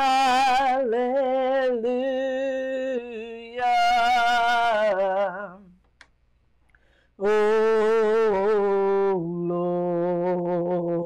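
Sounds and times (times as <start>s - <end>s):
woman singing long held notes: 0.0s - 5.8s, 7.2s - 11.0s.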